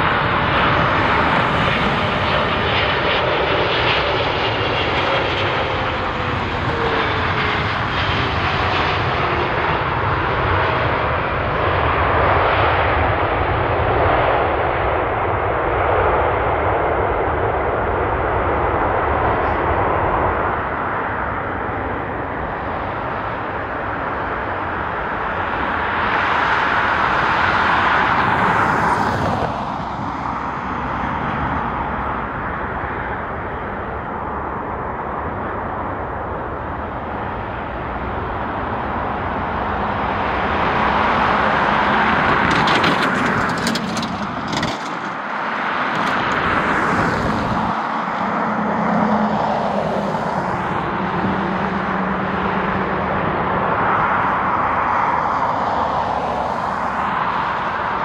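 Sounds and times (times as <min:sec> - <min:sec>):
jet engine noise: 0:00.0 - 0:58.0.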